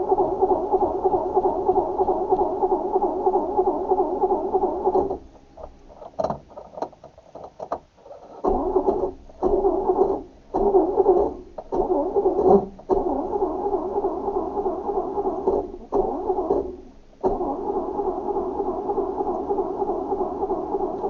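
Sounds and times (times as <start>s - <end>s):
starter motor cranking engine: 0.0s - 6.5s, 8.3s - 21.0s.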